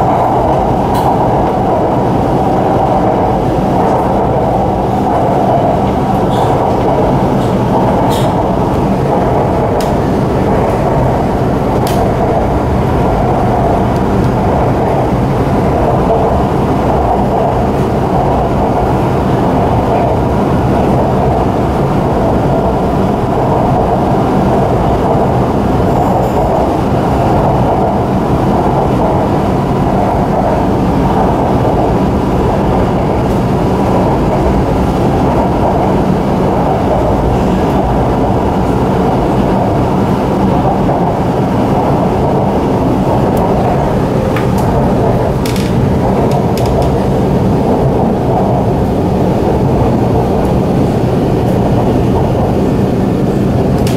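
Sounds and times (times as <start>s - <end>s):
train rumbling: 0.0s - 53.9s.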